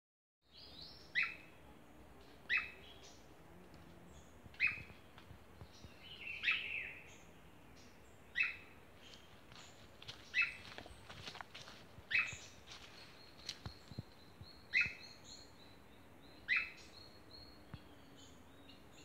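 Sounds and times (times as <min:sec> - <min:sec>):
faint forest background: 0:00.4 - 0:19.0.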